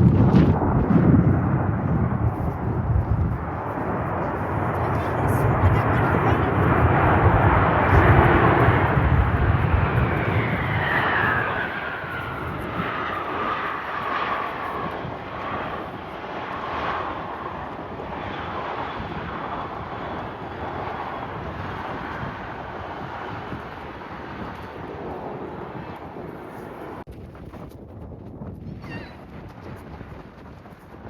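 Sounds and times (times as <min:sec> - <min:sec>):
airliner engine whine: 0:00.0 - 0:27.1
airliner rumble: 0:00.0 - 0:27.3.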